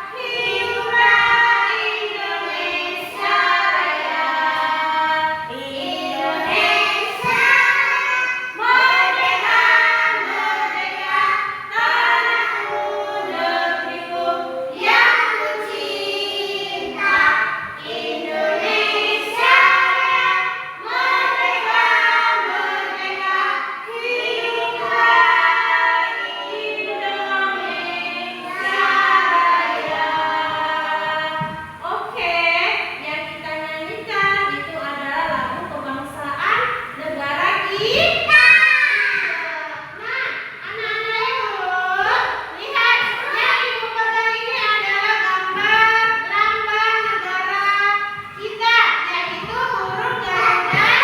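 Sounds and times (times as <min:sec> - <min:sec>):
children singing together: 0:00.0 - 0:32.3, 0:32.9 - 0:51.0.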